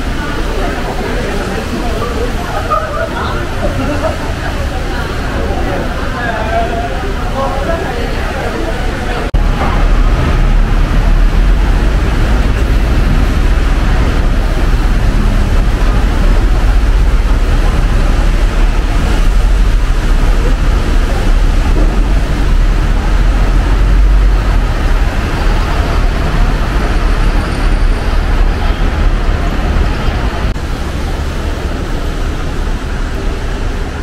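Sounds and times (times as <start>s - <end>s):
street traffic rumble: 0.0s - 34.0s.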